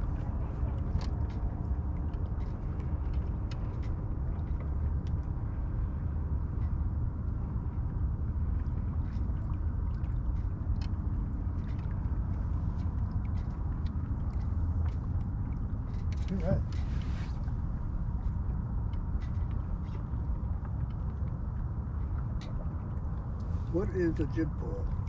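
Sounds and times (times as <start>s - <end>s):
low rumble of sailboat: 0.0s - 25.0s
water noise: 0.0s - 25.0s
wind: 0.0s - 25.0s
light clicks and taps: 0.1s - 5.4s, 8.6s - 25.0s.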